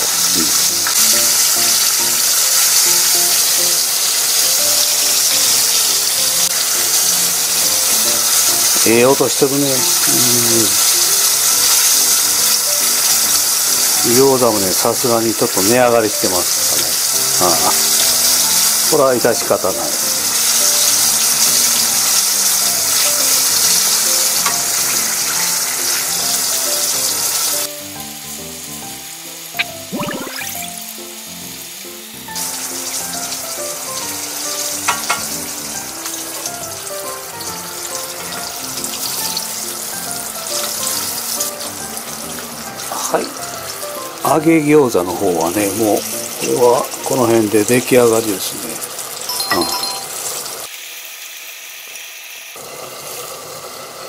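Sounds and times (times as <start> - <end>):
dumplings deep-frying in oil: 0.0 - 29.6, 30.3 - 54.0
light background music: 0.0 - 50.2.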